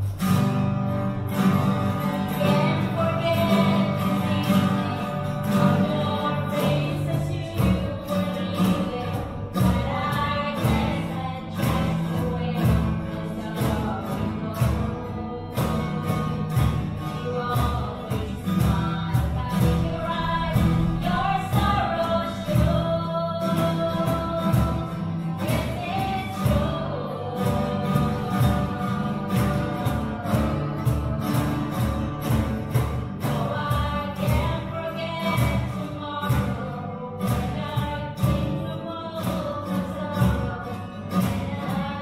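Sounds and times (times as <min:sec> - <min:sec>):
strummed acoustic guitars: 0:00.0 - 0:42.0
women singing together: 0:01.8 - 0:42.0.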